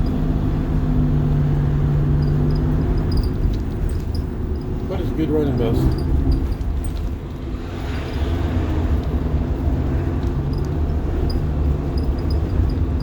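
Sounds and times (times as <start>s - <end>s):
bus diesel engine rumbling: 0.0s - 13.0s
road noise: 0.0s - 13.0s.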